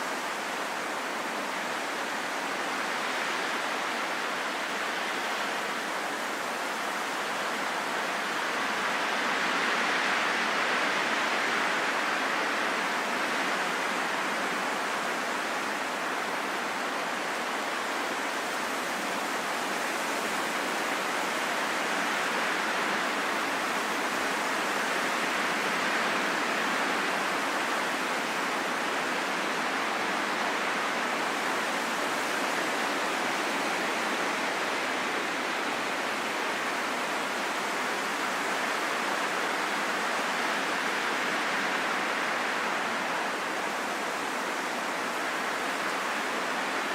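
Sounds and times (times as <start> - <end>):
steady rain in forest: 0.0 - 46.9.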